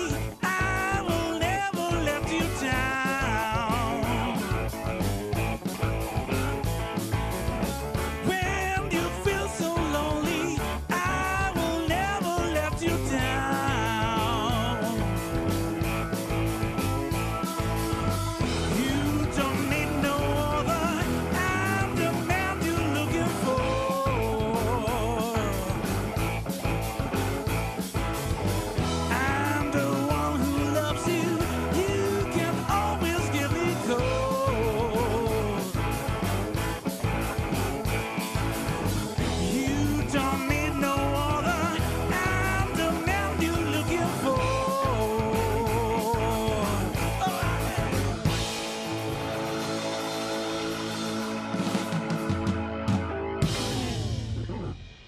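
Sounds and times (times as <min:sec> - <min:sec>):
bass and keyboard chords: 0:00.0 - 0:55.0
blues-rock band playing: 0:00.0 - 0:55.0
drums keeping a steady beat: 0:00.0 - 0:55.0
sliding lead melody with vibrato: 0:00.0 - 0:55.0.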